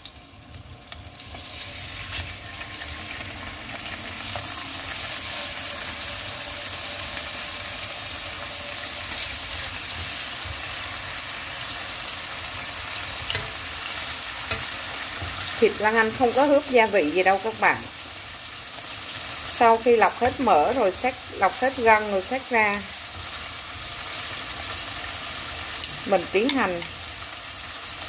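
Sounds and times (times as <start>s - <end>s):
pork sizzling in hot oil: 0.0s - 28.0s.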